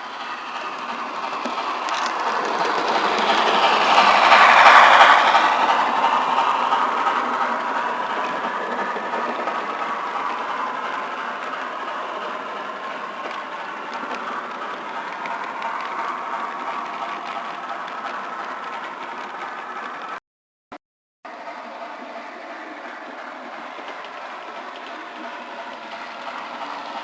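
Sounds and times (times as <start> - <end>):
model train wheels rumbling: 0.0 - 20.2, 21.3 - 27.0
faint clicking of track: 0.2 - 20.2, 22.8 - 27.0.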